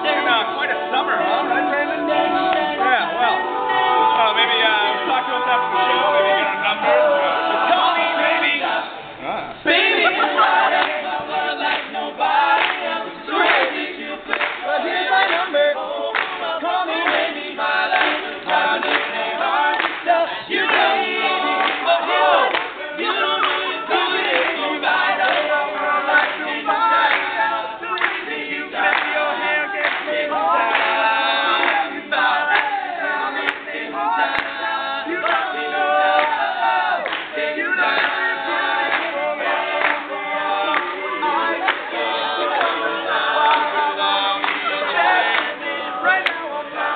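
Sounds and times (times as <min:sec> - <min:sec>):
men singing a cappella: 0:00.0 - 0:46.9.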